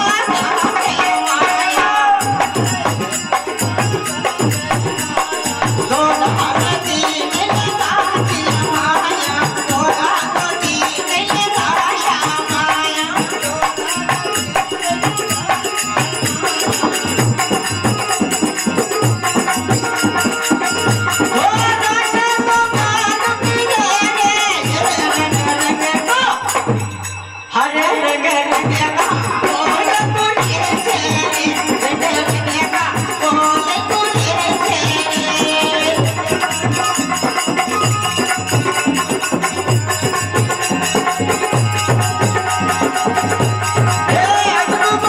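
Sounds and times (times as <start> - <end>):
harmonium: 0.0 - 45.0
man singing into a microphone: 0.0 - 45.0.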